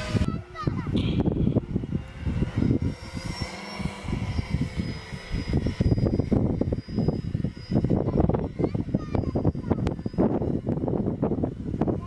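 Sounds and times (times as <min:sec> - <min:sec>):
electric model plane motor whining: 0:00.0 - 0:12.0
wind rumble on microphone: 0:00.0 - 0:12.0.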